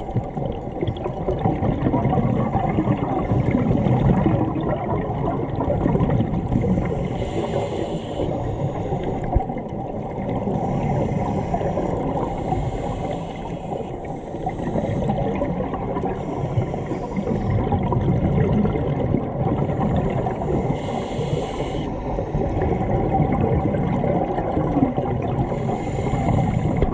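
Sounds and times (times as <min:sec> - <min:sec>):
bubbling water: 0:00.0 - 0:07.6, 0:08.3 - 0:26.9
muffled underwater rumble: 0:00.0 - 0:26.9.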